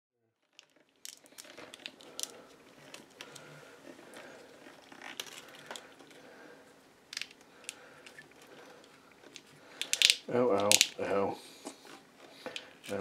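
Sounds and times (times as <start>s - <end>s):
plastic tubing clicking and rustling: 0.4s - 6.3s, 7.1s - 13.0s.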